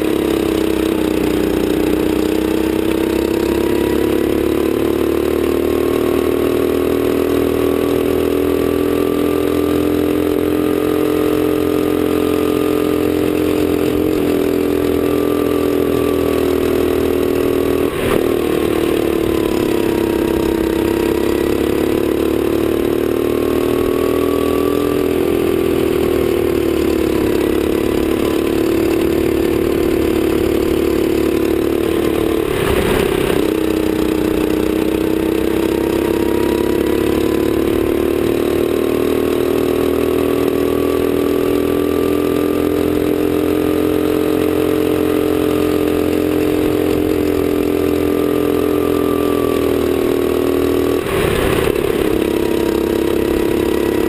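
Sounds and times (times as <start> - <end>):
kart engine under load: 0.0 - 54.0.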